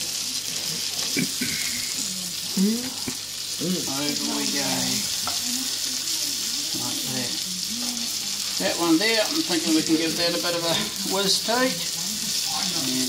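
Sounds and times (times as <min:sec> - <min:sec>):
fish sizzling in frying pan: 0:00.0 - 0:13.0.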